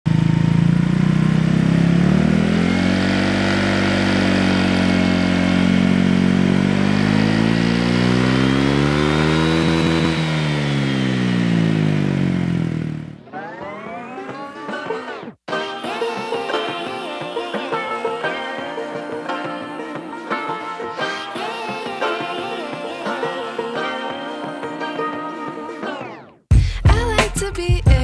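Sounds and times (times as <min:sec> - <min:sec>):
scooter engine revving: 0:00.1 - 0:24.2, 0:25.7 - 0:26.5.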